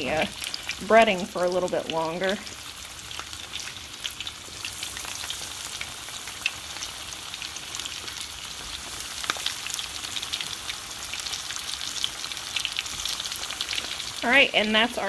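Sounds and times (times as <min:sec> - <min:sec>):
fish frying in hot oil: 0:00.0 - 0:15.0
oil crackling and popping: 0:00.0 - 0:15.0.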